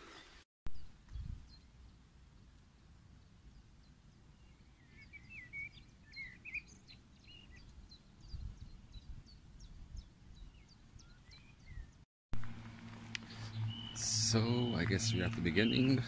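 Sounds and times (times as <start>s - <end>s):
songbirds singing: 0.1s - 12.0s, 12.8s - 16.0s
low rumble of wind: 0.7s - 16.0s.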